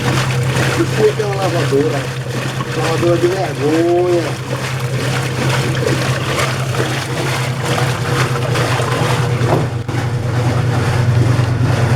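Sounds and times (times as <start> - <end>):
washing machine motor hum: 0.0 - 11.9
water sloshing and churning: 0.0 - 11.9.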